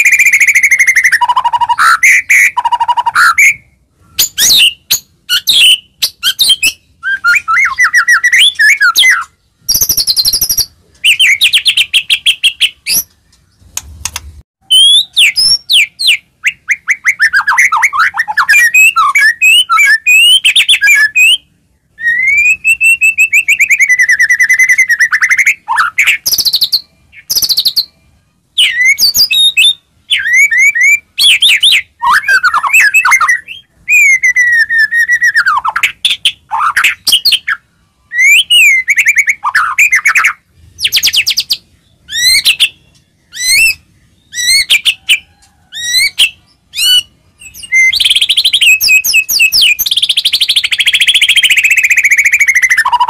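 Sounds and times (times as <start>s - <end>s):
songbird whistling and trilling: 0.0s - 13.8s, 14.6s - 53.0s.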